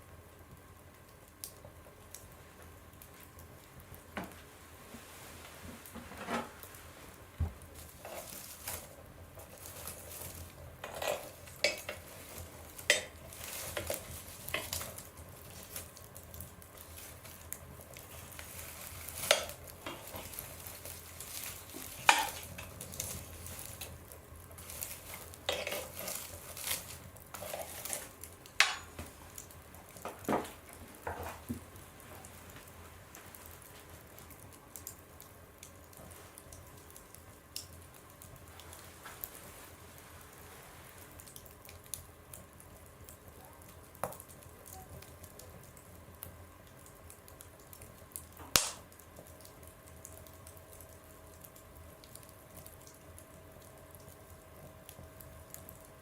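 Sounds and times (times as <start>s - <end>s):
fire crackling and popping: 0.0s - 56.0s
soft steady hiss: 0.0s - 56.0s.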